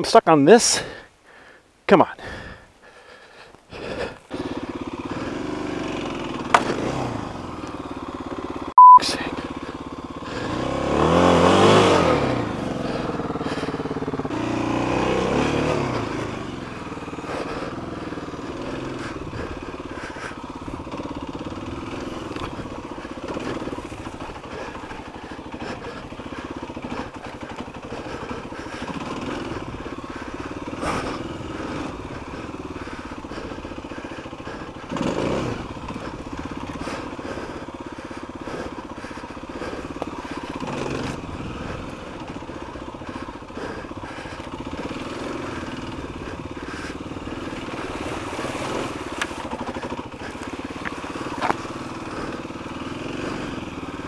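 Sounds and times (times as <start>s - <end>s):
motorcycle engine revving: 3.7s - 54.0s.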